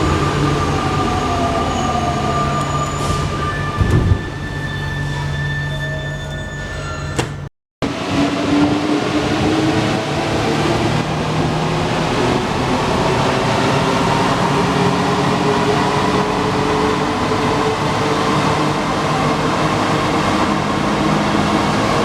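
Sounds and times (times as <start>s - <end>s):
metro train rolling rumble: 0.0s - 22.0s.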